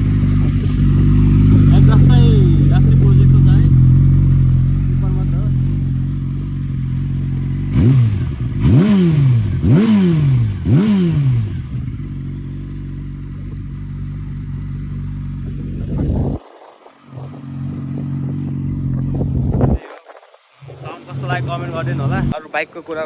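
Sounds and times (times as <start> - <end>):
motorcycle engine revving and idling: 0.0 - 22.6.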